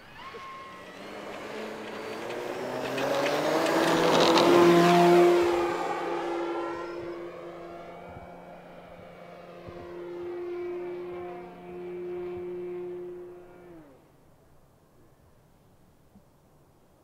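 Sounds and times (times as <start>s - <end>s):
model plane propeller drone: 0.0s - 14.3s.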